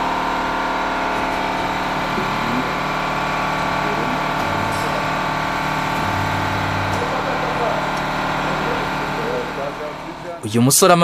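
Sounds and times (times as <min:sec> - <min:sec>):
machine humming: 0:00.0 - 0:10.6.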